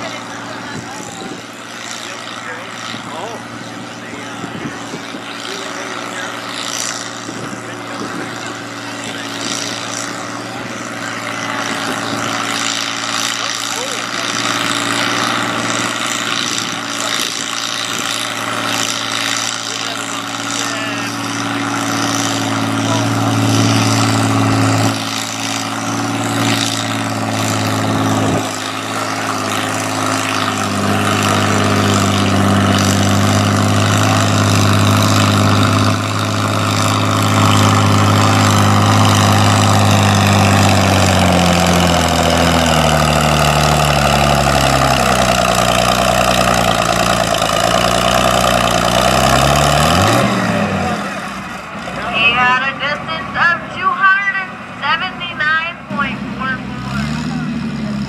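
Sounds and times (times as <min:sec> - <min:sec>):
short engine rev: 0:00.0 - 0:58.0
tractor engine under load: 0:00.0 - 0:58.0.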